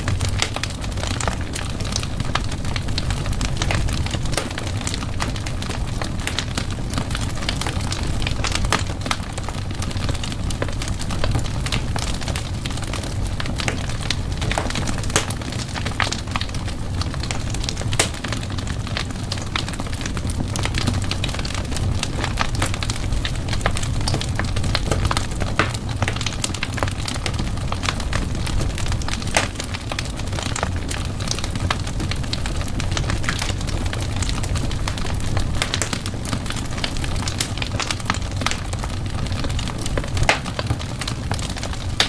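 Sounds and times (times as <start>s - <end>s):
fire crackling and popping: 0.0s - 42.0s
low rumble of flame: 0.0s - 42.0s.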